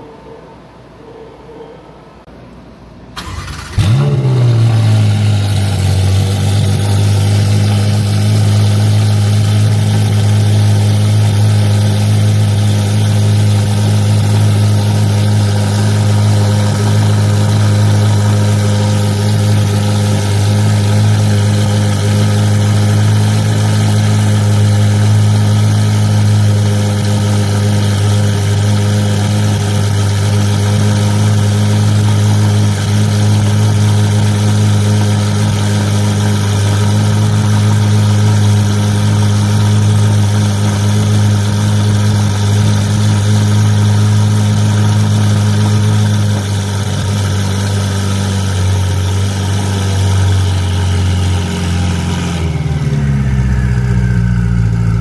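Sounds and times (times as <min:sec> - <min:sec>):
sports car engine idling: 0:03.2 - 0:55.0.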